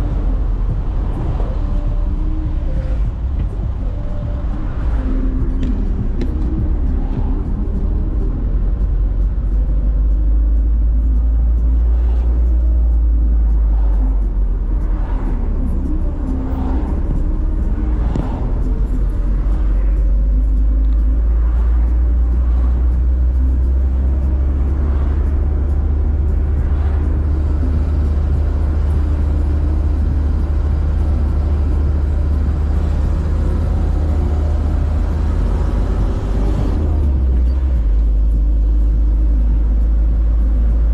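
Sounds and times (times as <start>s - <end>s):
passing traffic whooshes: 0.0s - 40.9s
vehicle road rumble: 0.0s - 40.9s.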